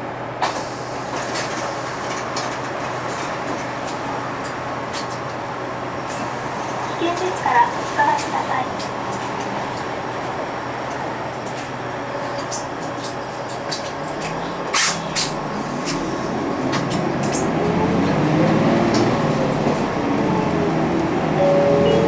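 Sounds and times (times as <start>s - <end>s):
bus engine accelerating: 0.1s - 22.0s.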